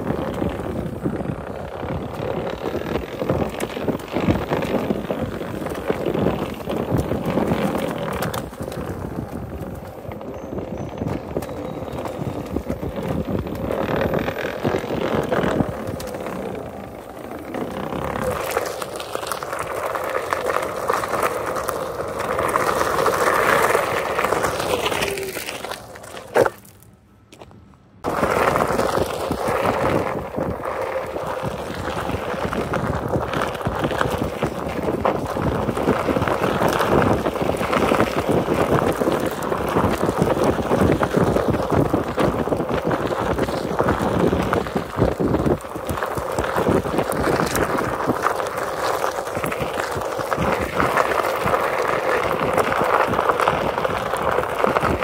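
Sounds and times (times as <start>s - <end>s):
tyre rumbling on gravel trail: 0.0s - 55.0s.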